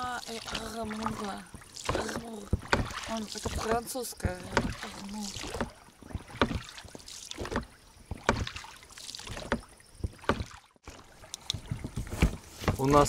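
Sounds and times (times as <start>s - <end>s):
soft knocks on inflatable boat: 0.5s - 8.7s, 9.3s - 10.6s, 11.5s - 13.0s.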